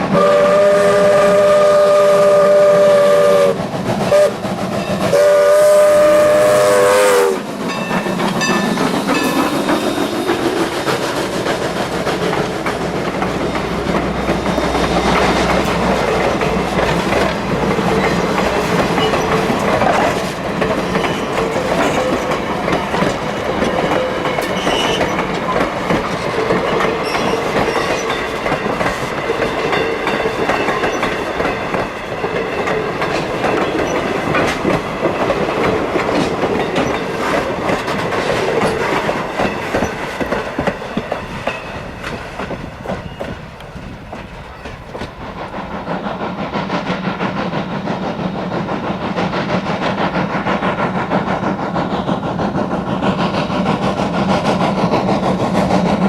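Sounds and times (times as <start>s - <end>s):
train cars clattering over rails: 2.6s - 56.0s.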